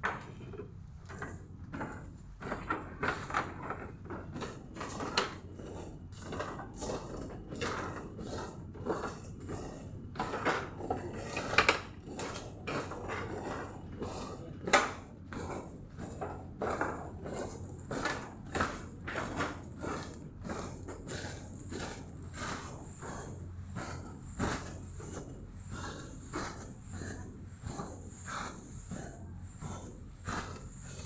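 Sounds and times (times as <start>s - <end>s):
steady low hum: 5.8s - 31.0s.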